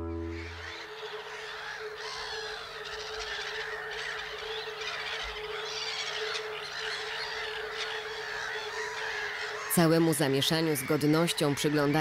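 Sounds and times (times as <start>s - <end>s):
waterbirds calling: 0.0s - 12.0s.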